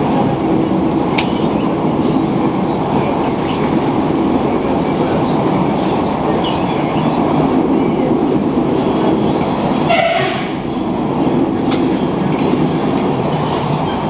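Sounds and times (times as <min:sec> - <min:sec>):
train carriage rumbling on rails: 0:00.0 - 0:14.0.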